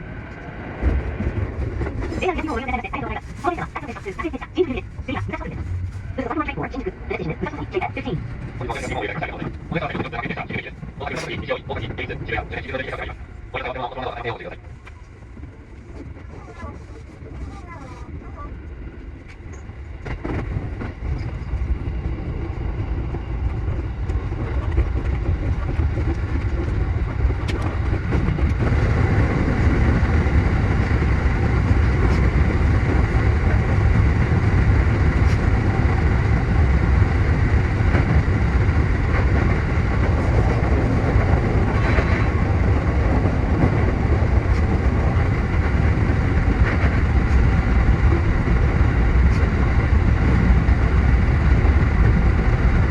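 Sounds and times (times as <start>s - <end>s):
electric train running on rails: 0.0s - 52.9s.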